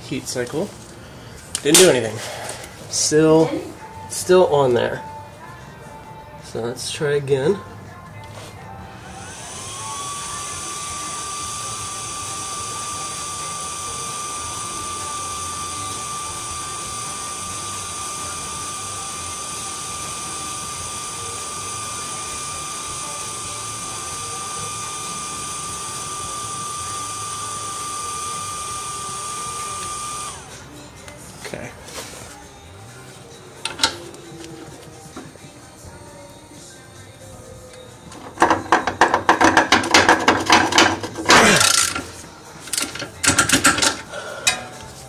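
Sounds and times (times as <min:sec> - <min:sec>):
induction heater high whine: 0:00.0 - 0:45.0.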